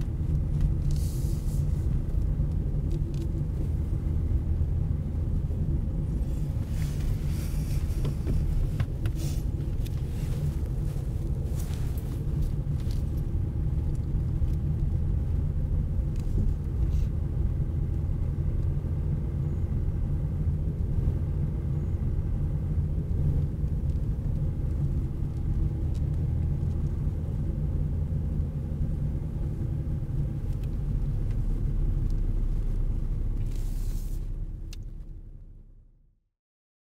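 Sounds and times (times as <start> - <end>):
car driving heard from inside: 0.0 - 36.2.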